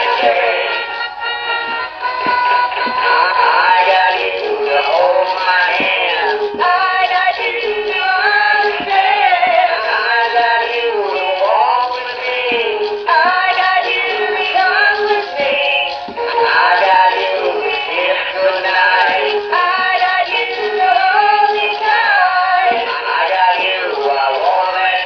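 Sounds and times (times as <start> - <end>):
recorded backing music: 0.0 - 25.0
toys singing a duet: 0.0 - 25.0.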